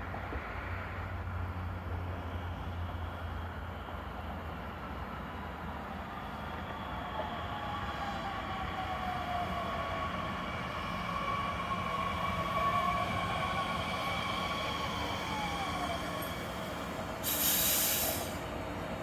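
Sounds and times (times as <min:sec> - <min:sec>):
electric train approaching: 0:00.1 - 0:19.0.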